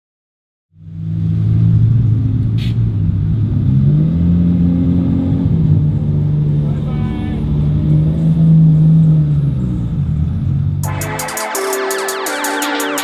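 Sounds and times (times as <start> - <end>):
car engine revving: 0.8 - 13.0.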